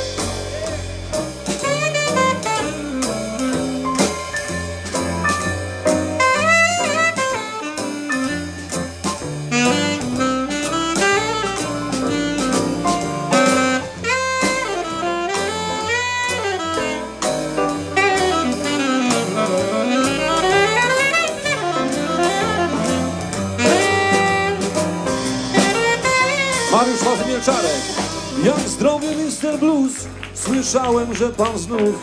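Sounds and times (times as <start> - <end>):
plucked double bass: 0.0 - 7.2, 8.2 - 31.8
saxophone solo: 0.0 - 30.4.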